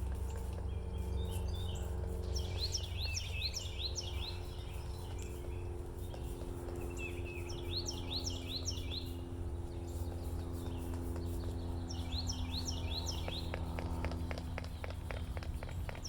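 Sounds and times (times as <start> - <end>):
songbird chirping: 0.0 - 16.0
steady low hum: 0.0 - 16.0.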